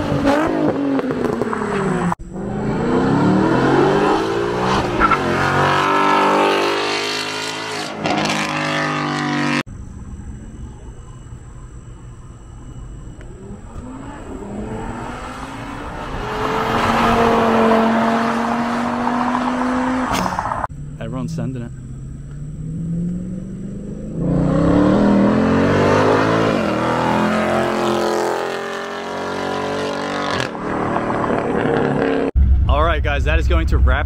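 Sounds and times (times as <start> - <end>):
sports car engine accelerating: 0.0 - 32.4
car engine with rising note: 0.0 - 32.9.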